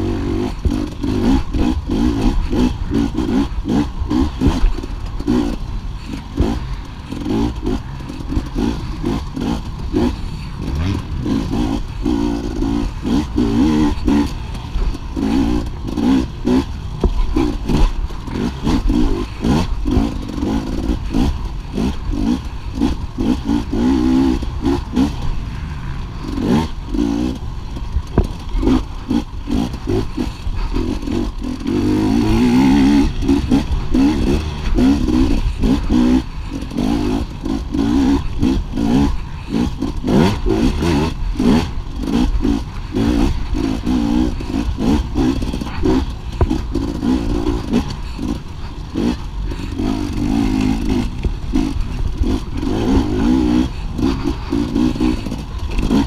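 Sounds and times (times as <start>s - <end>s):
bike clattering over rough terrain: 0.0s - 56.0s
dirt bike engine revving: 0.0s - 56.0s.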